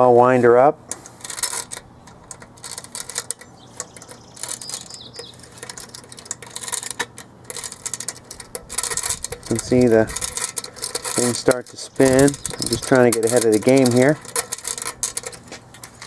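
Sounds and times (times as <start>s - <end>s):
windup toy ratchet clicks: 1.2s - 15.4s.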